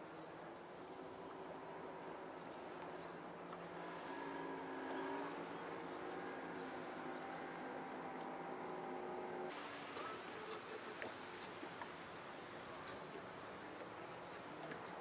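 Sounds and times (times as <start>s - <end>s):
outboard motor droning: 0.3s - 15.0s.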